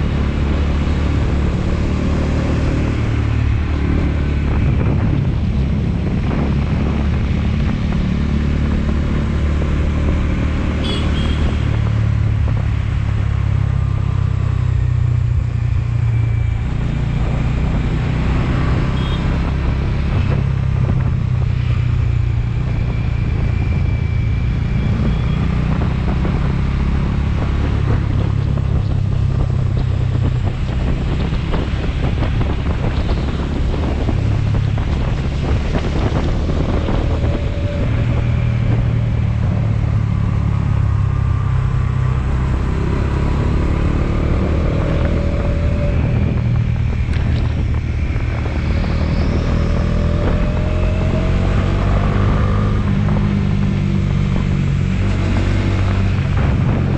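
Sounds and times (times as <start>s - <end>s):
wind buffeting microphone: 0.0s - 10.4s, 11.4s - 56.9s.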